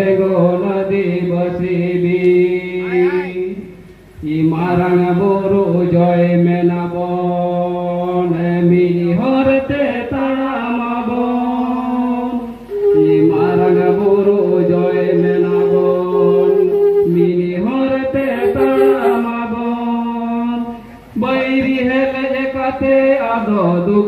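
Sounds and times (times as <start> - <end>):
man chanting through loudspeaker: 0.0 - 24.0.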